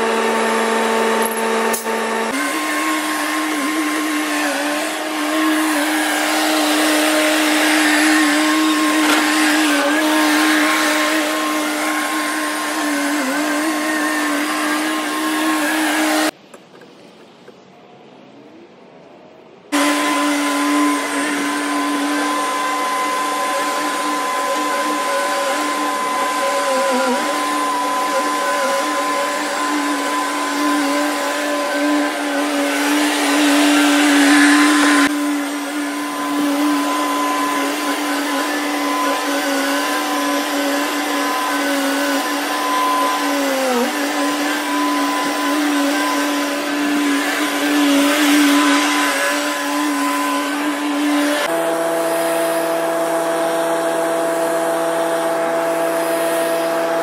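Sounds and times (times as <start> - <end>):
loader engine and hydraulics whining: 0.0 - 17.6, 19.7 - 57.0.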